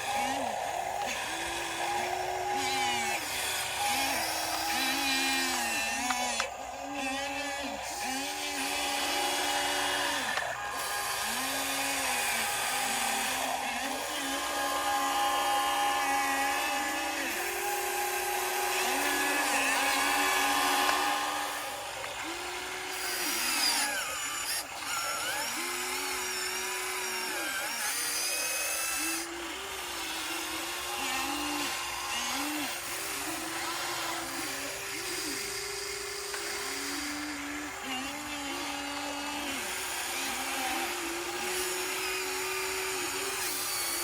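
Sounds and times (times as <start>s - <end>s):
hydraulic pump whining: 0.0s - 44.0s.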